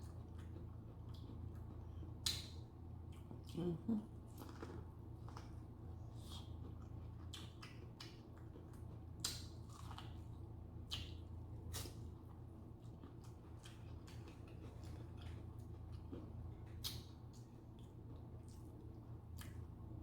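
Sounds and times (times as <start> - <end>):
chewing with wet mouth clicks: 0.0 - 3.7, 4.3 - 12.1, 12.8 - 19.8.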